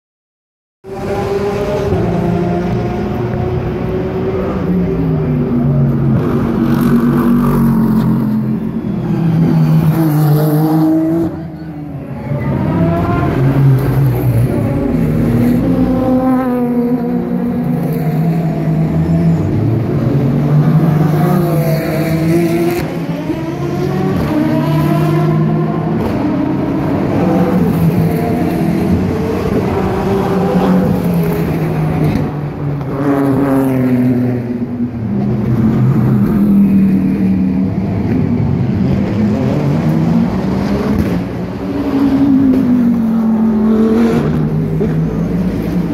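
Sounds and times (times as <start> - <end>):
race car engines accelerating past: 0.9 - 45.9.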